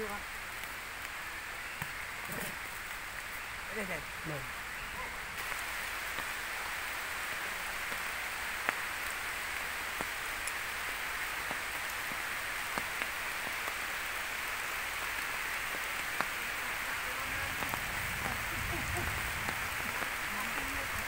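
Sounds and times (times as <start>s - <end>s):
rain on foliage and stone: 0.0s - 21.0s.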